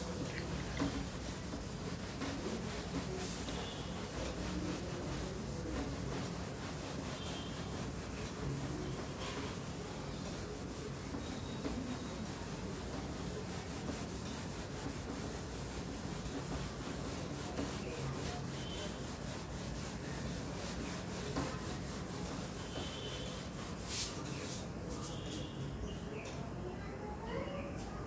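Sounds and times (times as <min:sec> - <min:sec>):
cloth rubbing whiteboard: 0:00.0 - 0:25.6.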